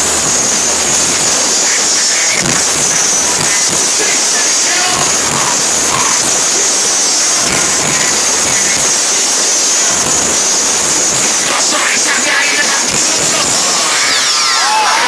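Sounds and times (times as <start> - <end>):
live band and crowd roar: 0.0 - 15.0
vocals: 0.0 - 15.0.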